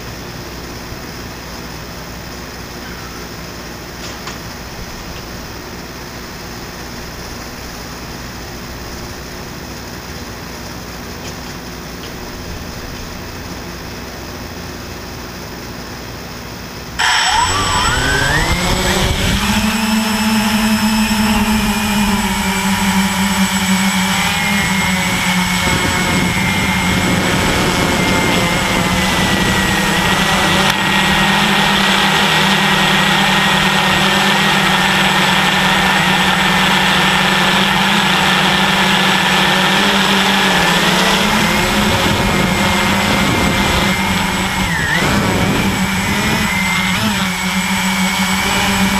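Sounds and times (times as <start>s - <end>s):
quadcopter motors whining and buzzing: 0.0s - 48.9s.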